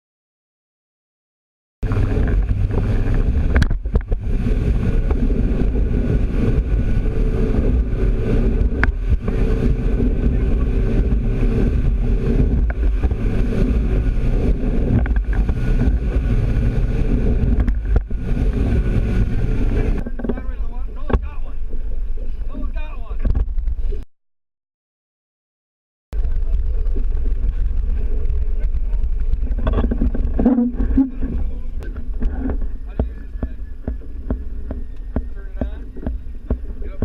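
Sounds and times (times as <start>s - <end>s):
motorboat engine running: 1.8s - 24.0s, 26.2s - 37.0s
wind buffeting microphone: 1.8s - 24.0s, 26.2s - 37.0s.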